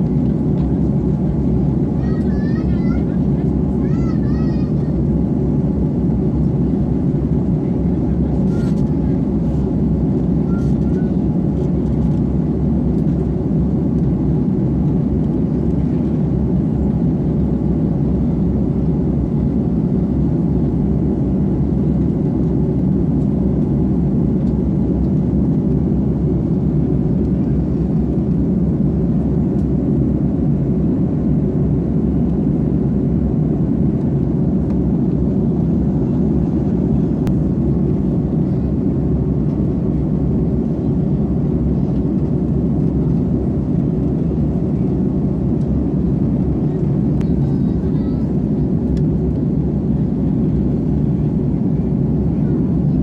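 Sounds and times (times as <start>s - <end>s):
airliner cabin drone: 0.0s - 53.0s.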